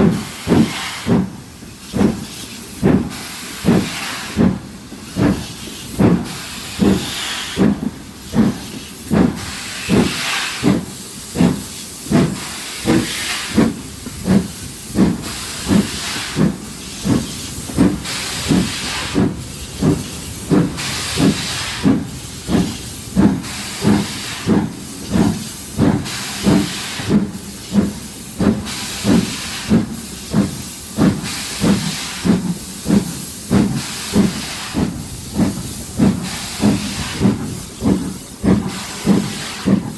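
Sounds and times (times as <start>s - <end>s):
steam hiss: 0.0s - 39.9s
steam locomotive chuffing: 0.0s - 39.9s.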